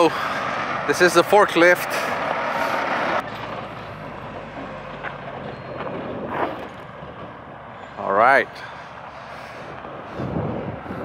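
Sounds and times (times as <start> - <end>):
diesel truck driving by: 0.0 - 11.0.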